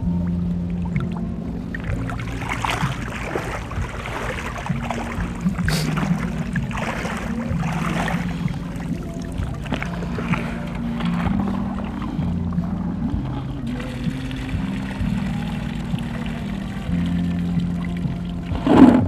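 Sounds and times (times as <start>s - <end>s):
background music: 0.0s - 19.0s
sea water sloshing and splashing: 0.0s - 19.0s.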